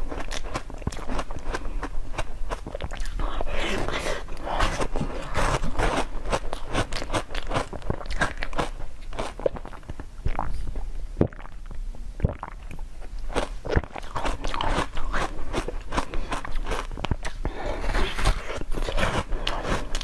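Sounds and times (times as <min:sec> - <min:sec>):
chewing crunchy food: 0:00.0 - 0:20.0.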